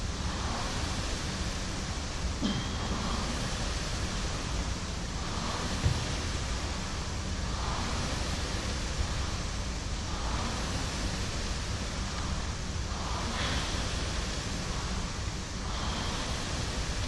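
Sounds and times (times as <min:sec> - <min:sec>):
rowing machine flywheel whooshing: 0:00.0 - 0:17.0.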